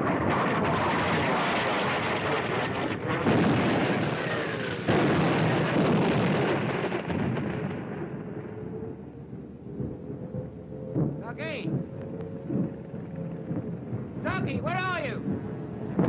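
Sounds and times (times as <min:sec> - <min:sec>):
bomb explosions rumbling: 0:00.0 - 0:16.0.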